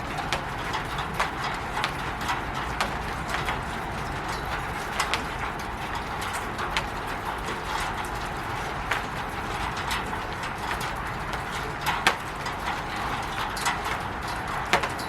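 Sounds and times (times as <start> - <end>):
louder drips and taps: 0.0 - 15.0
rain pattering on a roof: 0.0 - 15.0.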